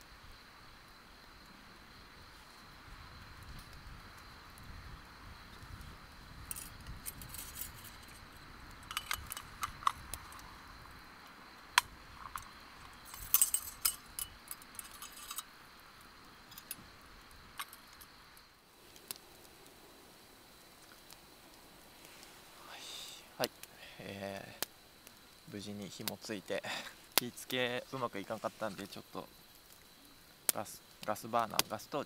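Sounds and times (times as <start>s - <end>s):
faint steady hiss: 0.0s - 32.0s
wood fire crackling and popping: 0.7s - 32.0s.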